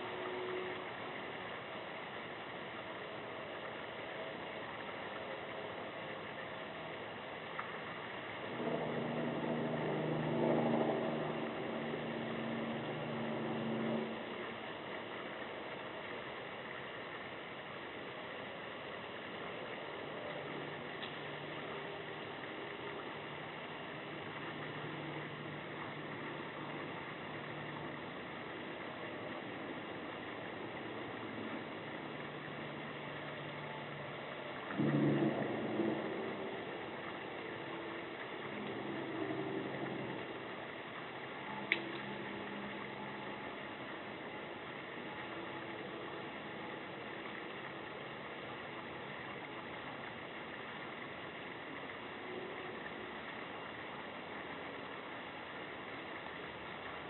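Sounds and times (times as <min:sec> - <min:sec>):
background hiss: 0:00.0 - 0:57.0
low engine-like hum: 0:00.0 - 0:57.0.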